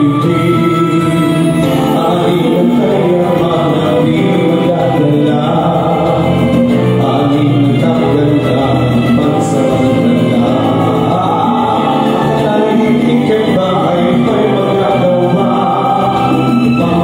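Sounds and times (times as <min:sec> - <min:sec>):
backing music: 0:00.0 - 0:17.0
man singing into microphone: 0:00.0 - 0:17.0.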